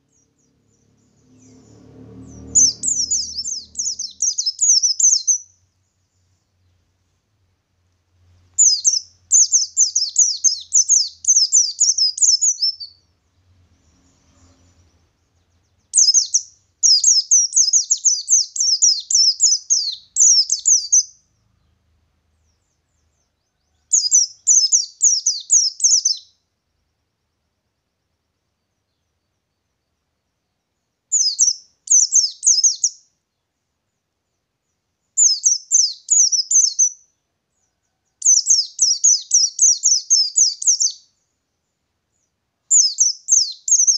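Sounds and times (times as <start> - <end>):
bird rapid high chirping song: 0.0 - 6.9, 8.2 - 26.4, 30.8 - 33.2, 34.6 - 37.2, 38.2 - 43.9.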